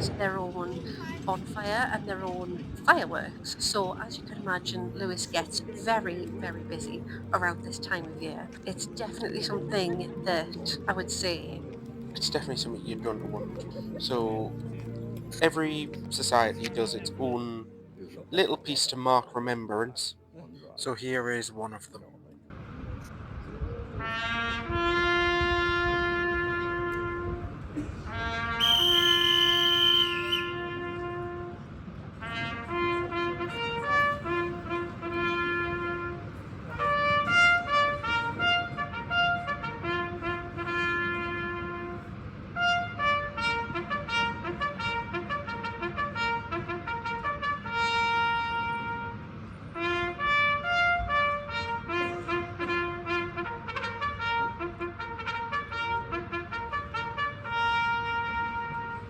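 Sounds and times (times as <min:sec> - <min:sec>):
solo brass instrument playing: 0:00.0 - 0:18.7, 0:24.0 - 0:59.0.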